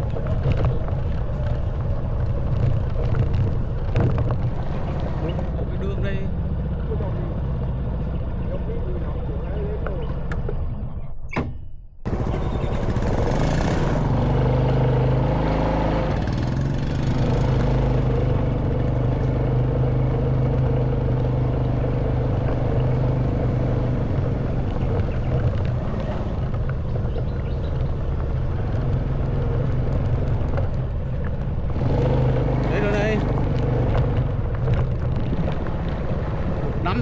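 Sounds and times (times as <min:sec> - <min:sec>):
motorbike engine running: 0:00.0 - 0:10.7, 0:12.1 - 0:37.0
wind and road noise: 0:00.0 - 0:37.0.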